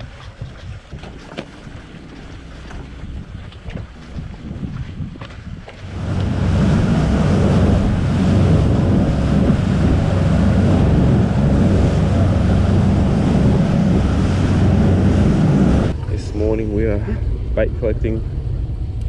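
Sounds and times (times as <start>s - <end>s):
boat engine drone: 0.0s - 19.0s
water rushing along hull: 0.0s - 19.0s
wind buffeting microphone: 0.0s - 19.0s.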